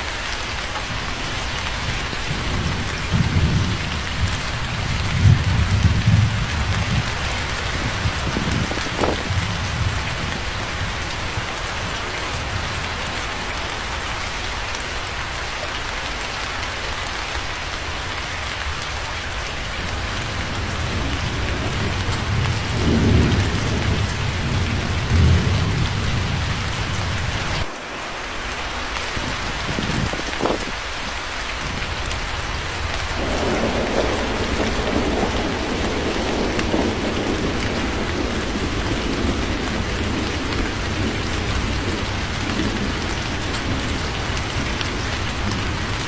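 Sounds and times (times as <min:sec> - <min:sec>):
heavy rain falling: 0:00.0 - 0:46.0
rumbles of thunder: 0:00.8 - 0:13.3, 0:19.7 - 0:46.0.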